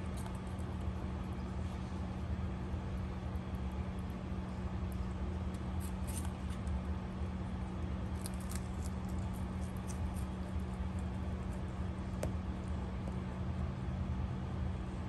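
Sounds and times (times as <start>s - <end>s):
rabbit chewing crunchy food: 0.0s - 15.0s
steady low hum: 0.0s - 15.0s.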